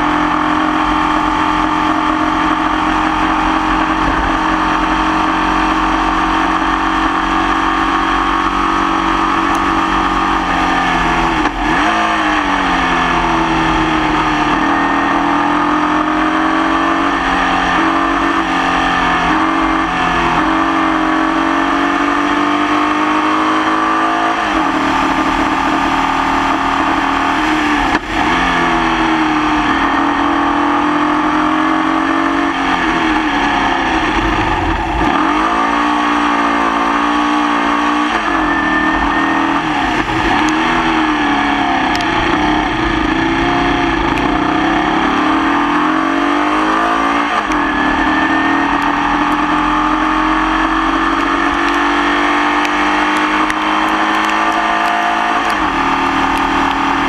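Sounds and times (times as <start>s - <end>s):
gear change: 0.0s - 57.0s.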